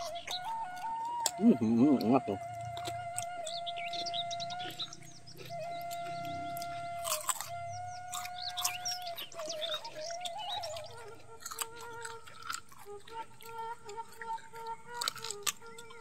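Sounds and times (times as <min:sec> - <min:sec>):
birds chirping: 0:00.0 - 0:16.0
crunchy chewing of cucumber: 0:00.0 - 0:16.0
faint melody of steady tones: 0:00.0 - 0:16.0.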